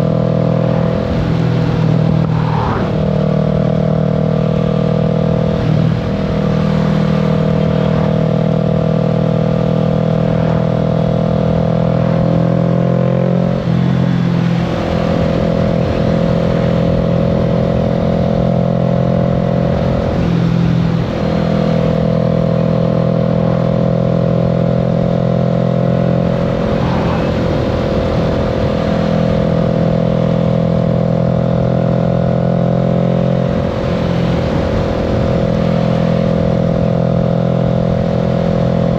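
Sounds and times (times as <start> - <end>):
wind noise: 0.0 - 22.6, 25.8 - 31.3, 33.2 - 38.9
motorcycle engine running: 0.0 - 38.9
road rumble: 0.0 - 38.9.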